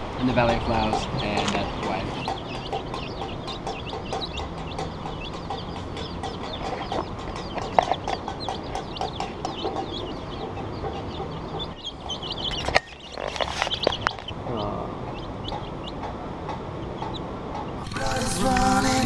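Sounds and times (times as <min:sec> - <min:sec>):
birds chirping and clucking: 0:00.0 - 0:19.0.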